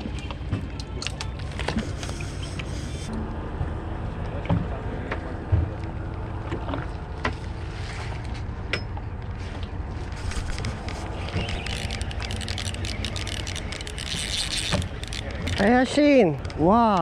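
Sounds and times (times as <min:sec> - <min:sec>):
low rumble of wind and water: 0:00.0 - 0:17.0.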